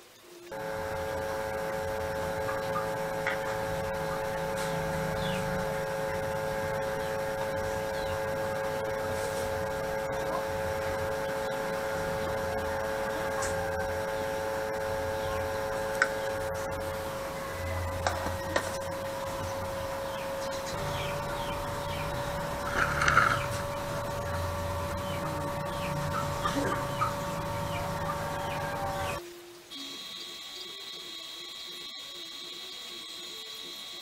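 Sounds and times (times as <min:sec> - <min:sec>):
electrical hum with high whine: 0:00.0 - 0:34.0.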